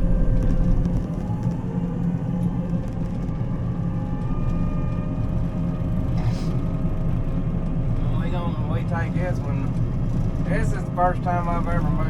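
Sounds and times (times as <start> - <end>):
faint whining tones: 0.0 - 10.7
combine harvester engine drone: 0.0 - 12.0.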